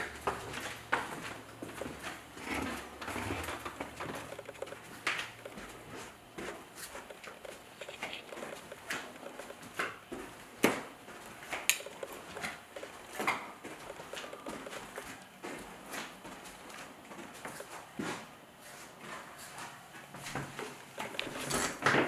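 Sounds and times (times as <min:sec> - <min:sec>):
footsteps walking: 0:00.0 - 0:22.0.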